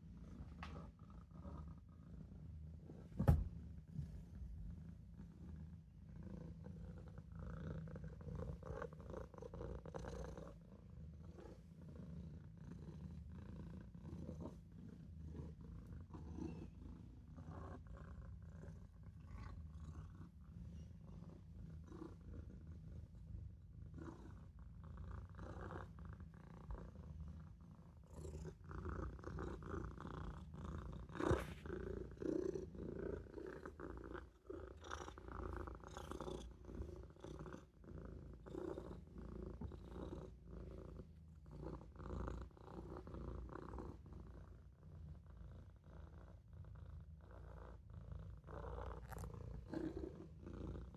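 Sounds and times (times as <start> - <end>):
kitten purring: 0.0 - 50.9.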